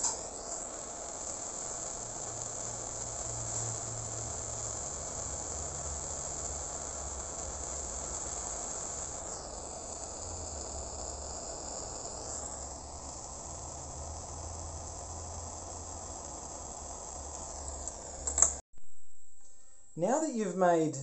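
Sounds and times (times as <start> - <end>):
gas torch flame hissing: 0.0 - 18.6.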